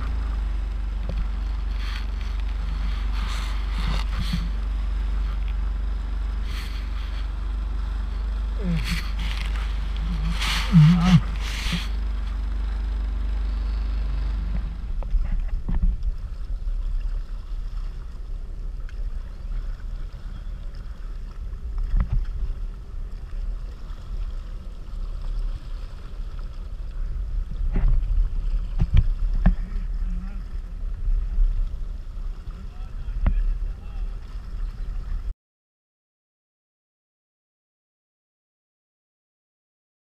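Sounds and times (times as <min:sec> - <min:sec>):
wind on microphone: 0:00.0 - 0:12.4, 0:14.0 - 0:35.3
jet ski engine rumble: 0:00.0 - 0:35.3.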